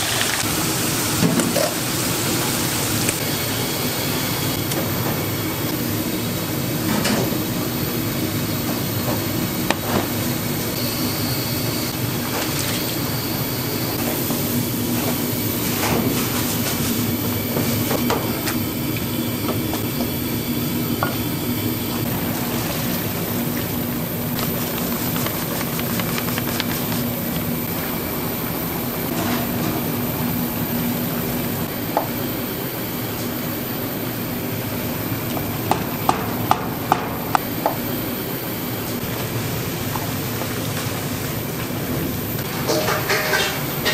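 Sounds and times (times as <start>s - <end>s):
exhaust hood fan humming: 0.0s - 43.9s.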